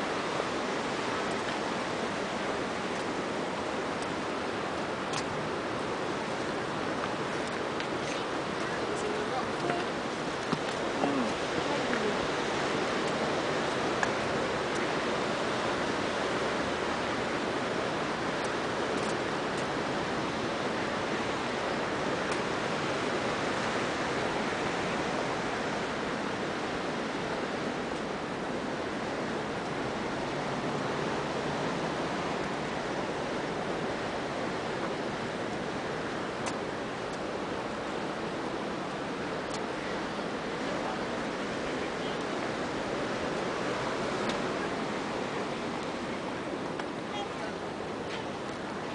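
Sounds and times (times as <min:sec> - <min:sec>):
sea surf rushing: 0:00.0 - 0:48.9.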